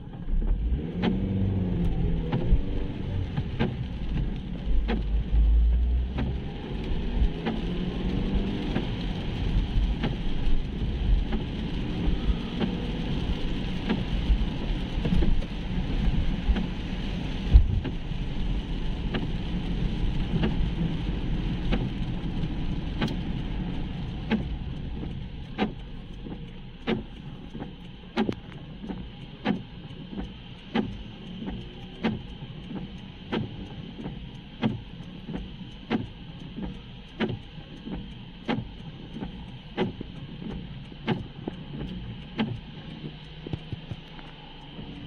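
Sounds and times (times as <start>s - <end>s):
car engine and tyre rumble: 0.0s - 45.0s
tyres hissing on wet road: 0.7s - 45.0s.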